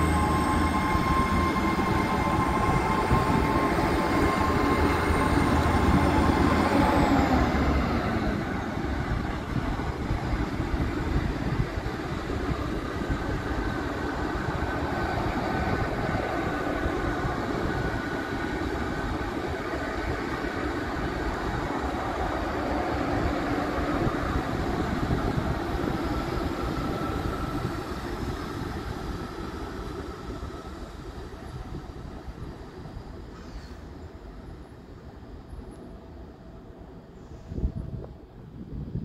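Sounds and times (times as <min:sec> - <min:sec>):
train passing rumble: 0:00.0 - 0:39.0.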